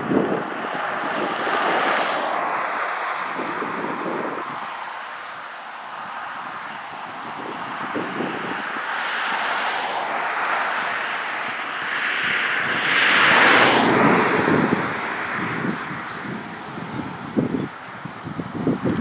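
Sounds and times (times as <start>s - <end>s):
vehicle passing with rushing noise: 0.0s - 18.4s.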